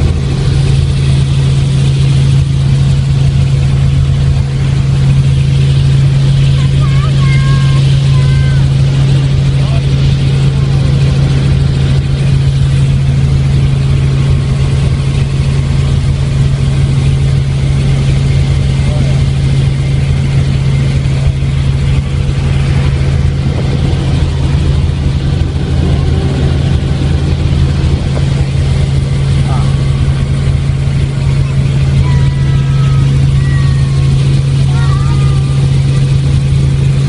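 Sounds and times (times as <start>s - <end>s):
helicopter engine and rotor drone: 0.0s - 37.0s.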